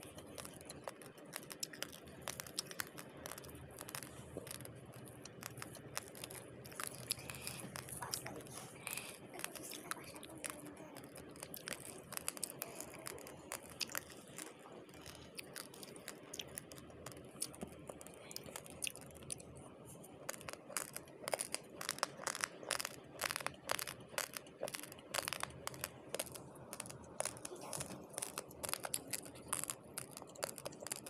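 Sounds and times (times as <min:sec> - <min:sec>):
chewing raw rice crunching: 0:00.0 - 0:09.8, 0:10.4 - 0:31.0.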